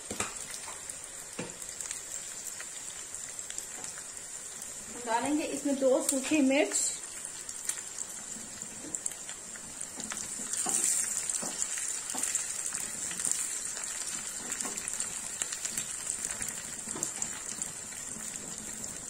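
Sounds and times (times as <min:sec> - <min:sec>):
oil sizzling in pan: 0:00.0 - 0:19.0.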